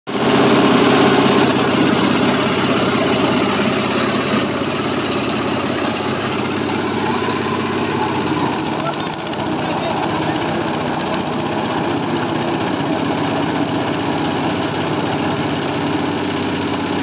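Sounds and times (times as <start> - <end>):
crusher shredding foam: 0.1 - 17.0
diesel engine running: 0.1 - 17.0.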